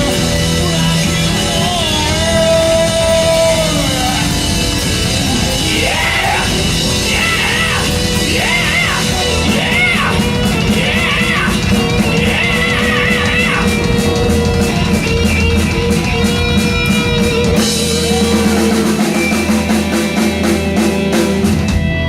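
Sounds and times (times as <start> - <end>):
lead guitar bending notes: 0.0 - 22.0
live hard rock band: 0.0 - 22.0.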